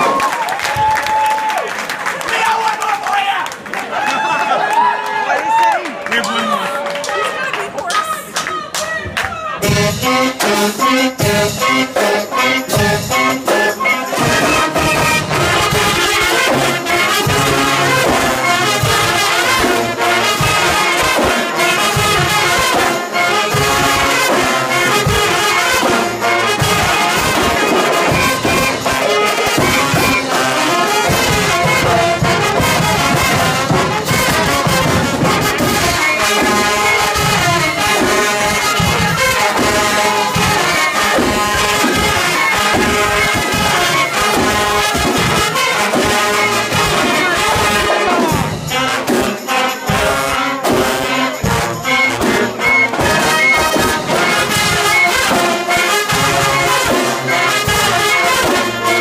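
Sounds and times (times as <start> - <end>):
marching band playing: 0.0 - 4.8, 5.5 - 59.0.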